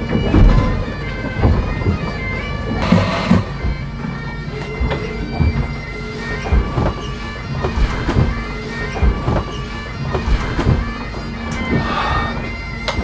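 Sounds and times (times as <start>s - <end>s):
bagpipes playing: 0.0s - 13.0s
low thumps: 0.0s - 13.0s.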